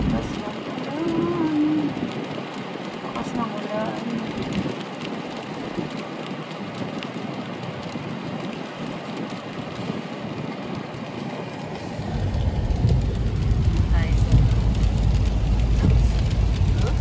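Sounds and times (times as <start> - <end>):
rain and tyres on wet road: 0.0 - 17.0.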